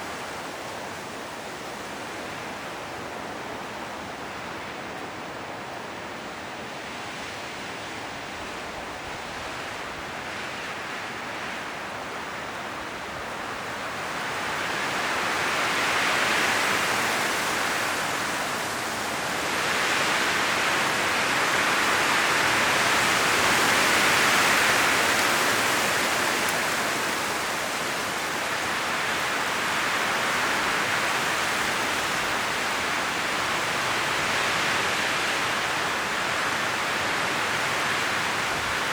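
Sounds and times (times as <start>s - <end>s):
wind rustling tree leaves: 0.0s - 38.9s.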